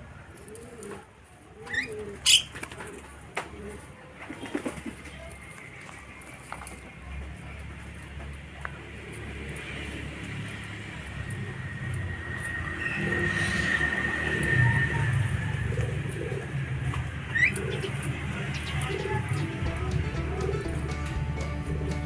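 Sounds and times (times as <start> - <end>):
dove-like cooing: 0.2 - 5.5, 8.7 - 21.1.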